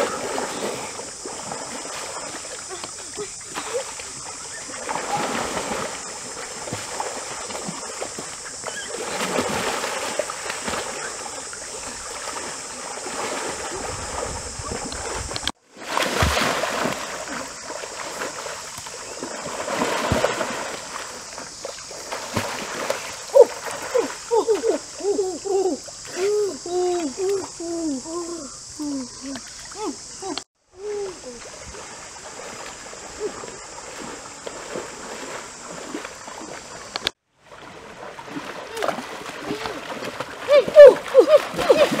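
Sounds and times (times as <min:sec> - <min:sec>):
water splashing and sloshing: 0:00.0 - 0:27.6, 0:29.0 - 0:42.0.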